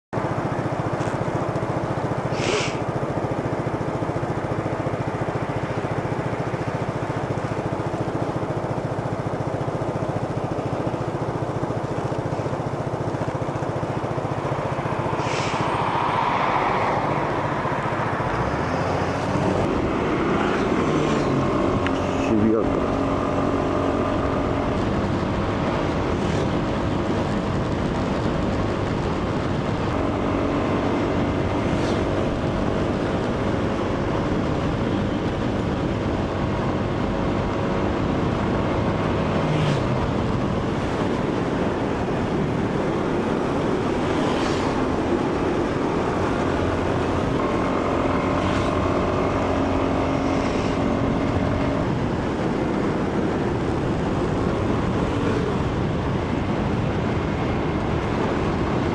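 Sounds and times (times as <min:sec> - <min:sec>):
scooter engine running: 0:00.2 - 0:15.1, 0:15.7 - 0:58.9.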